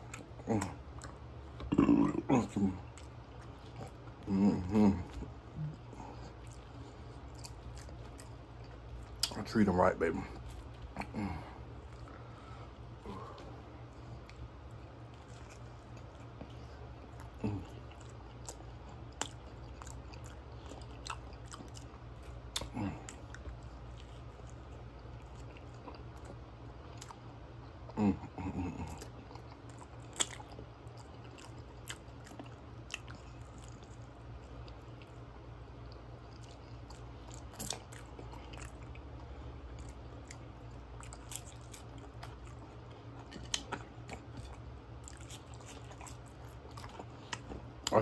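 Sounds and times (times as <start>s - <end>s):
close chewing with mouth clicks: 0.0s - 48.0s
steady low hum: 0.0s - 48.0s.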